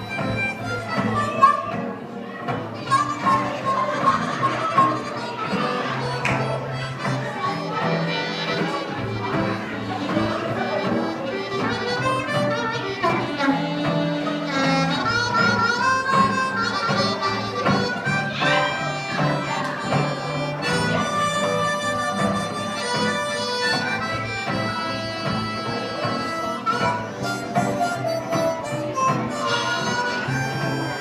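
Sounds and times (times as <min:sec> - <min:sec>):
harmonica solo: 0:00.0 - 0:31.0
live band accompaniment: 0:00.0 - 0:31.0.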